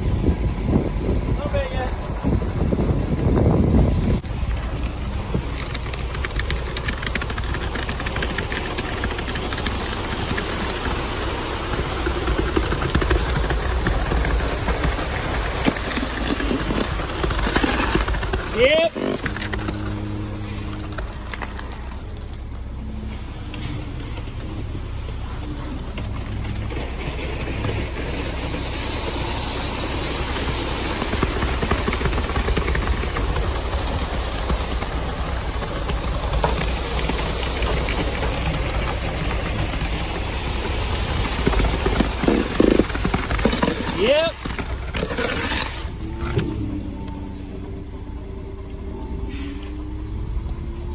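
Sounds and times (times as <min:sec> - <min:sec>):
diesel engine running: 0:00.0 - 0:50.9
wet concrete sliding down chute: 0:04.1 - 0:47.9.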